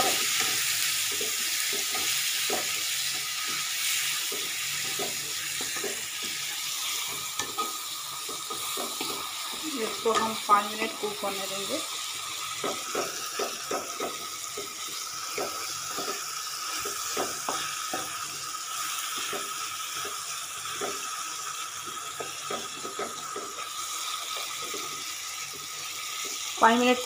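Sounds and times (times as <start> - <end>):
spatula scraping and tapping pan: 0.0 - 11.2, 12.5 - 18.4, 19.1 - 21.1, 21.8 - 26.5
vegetables sizzling in oil: 0.0 - 27.0.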